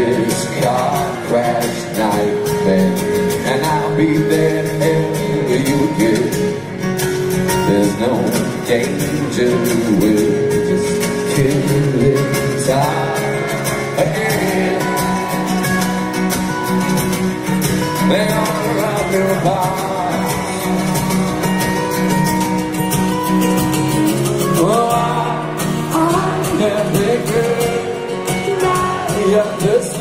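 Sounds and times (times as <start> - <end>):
man singing: 0.0 - 6.7, 7.5 - 16.2, 17.8 - 22.7, 24.2 - 30.0
strummed acoustic guitars: 0.0 - 30.0.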